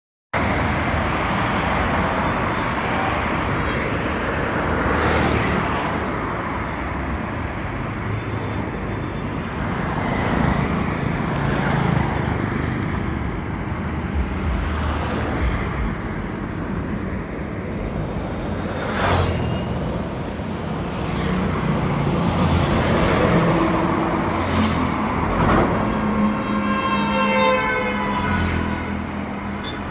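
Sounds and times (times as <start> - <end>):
road traffic: 0.3 - 29.9.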